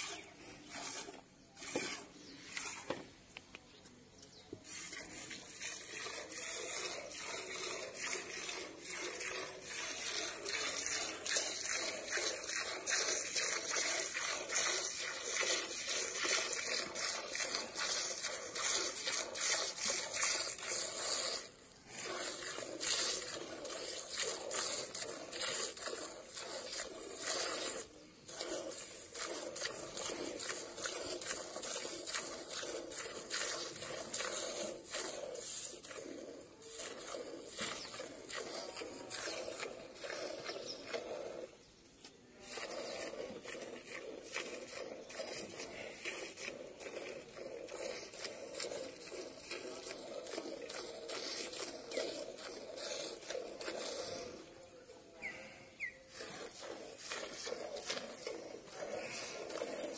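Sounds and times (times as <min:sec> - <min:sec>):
milk squirting into metal pail: 0:00.0 - 0:03.1, 0:04.6 - 0:54.7, 0:56.1 - 0:59.9.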